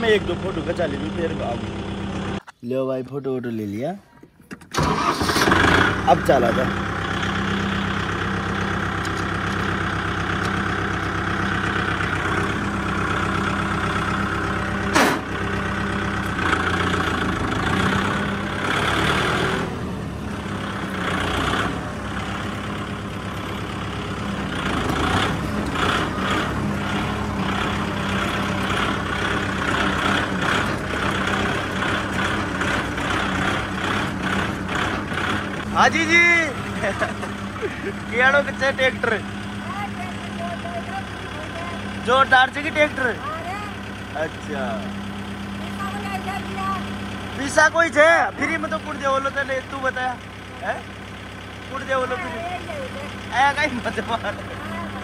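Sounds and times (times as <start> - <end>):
tractor diesel engine running: 0.0 - 3.0, 3.8 - 55.0.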